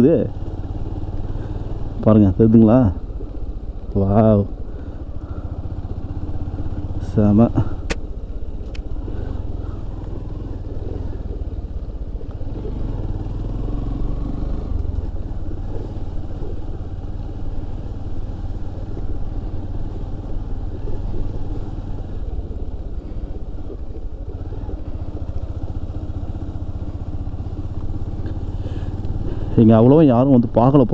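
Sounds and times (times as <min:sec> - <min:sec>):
motorcycle engine rumbling: 0:00.0 - 0:30.9.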